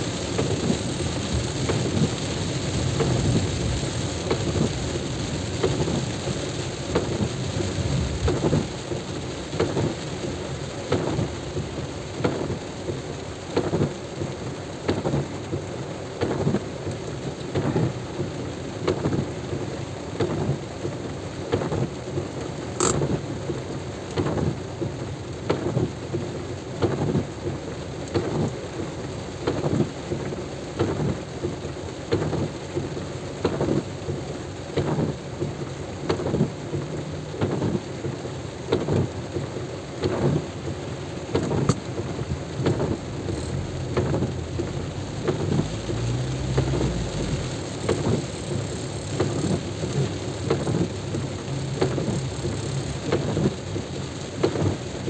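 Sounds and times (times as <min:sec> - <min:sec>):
heavy rain: 0:00.0 - 0:55.0
wind: 0:00.0 - 0:55.0.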